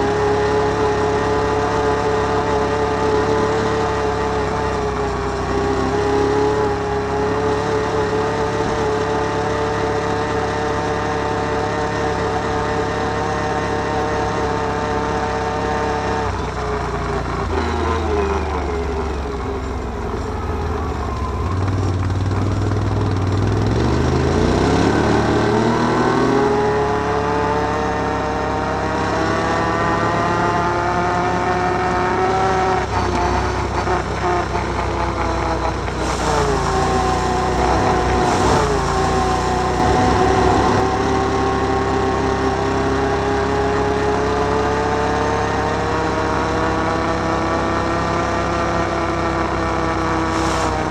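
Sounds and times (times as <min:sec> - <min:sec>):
atv engine running and revving: 0:00.0 - 0:50.9.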